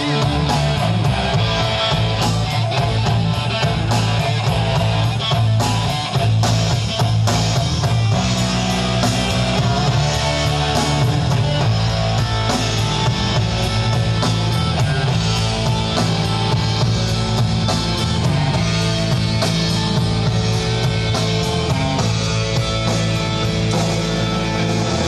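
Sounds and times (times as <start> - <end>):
bass guitar: 0.0 - 25.0
drums with steady beat: 0.0 - 25.0
electric guitars: 0.0 - 25.0.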